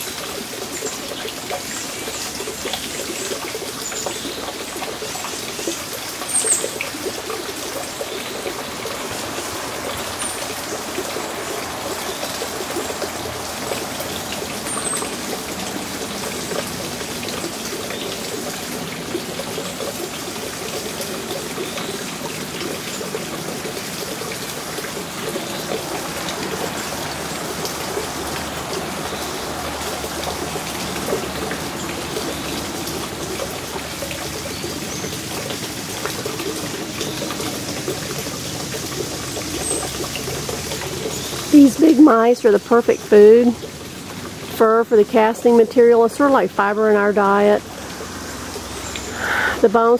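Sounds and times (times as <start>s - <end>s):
water trickling: 0.0s - 49.9s.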